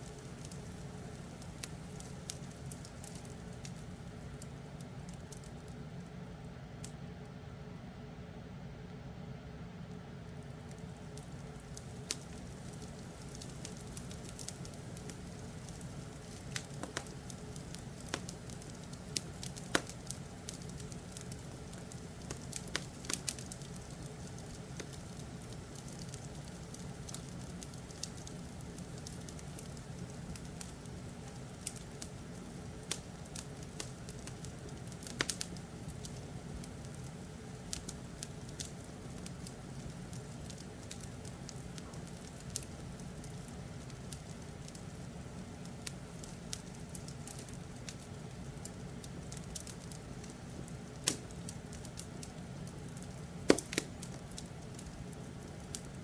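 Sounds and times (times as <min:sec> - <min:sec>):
wood fire crackling: 0:00.0 - 0:07.3, 0:09.7 - 0:56.0.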